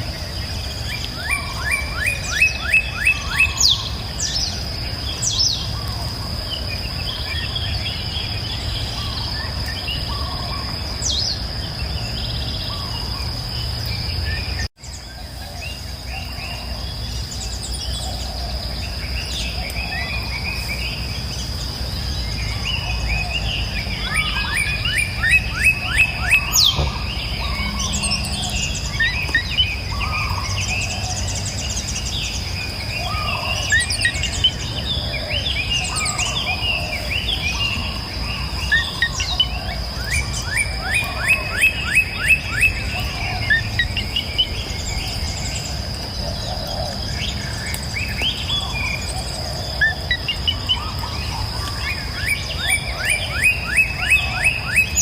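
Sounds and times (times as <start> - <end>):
high insect drone: 0.0 - 55.0
songbirds chirping and singing: 0.0 - 55.0.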